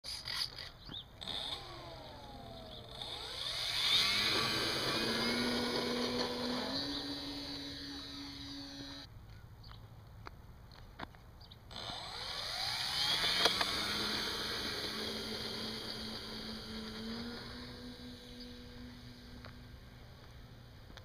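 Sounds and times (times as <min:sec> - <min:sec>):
model airplane motor whining: 0:00.2 - 0:09.1, 0:11.7 - 0:21.0.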